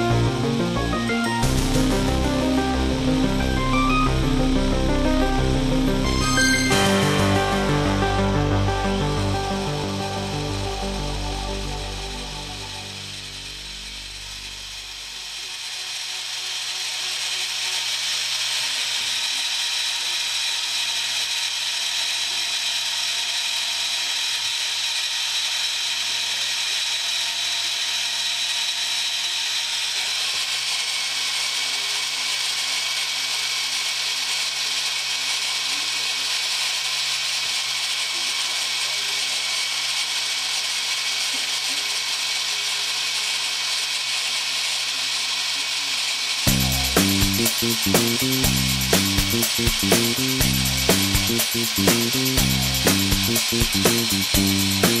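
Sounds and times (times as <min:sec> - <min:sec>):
lathe whirring: 0:00.0 - 0:55.0.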